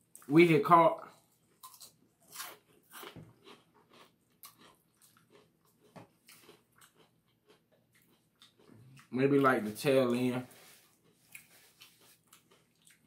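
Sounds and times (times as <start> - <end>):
person chewing food: 1.1 - 9.1, 10.5 - 13.0.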